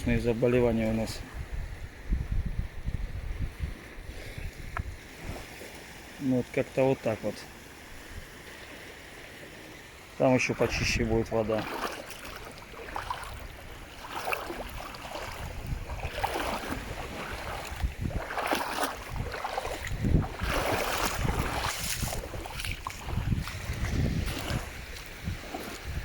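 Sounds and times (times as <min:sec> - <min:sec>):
wind on microphone: 0:00.0 - 0:05.5, 0:10.6 - 0:26.0
sea water splashing at shore: 0:04.1 - 0:26.0.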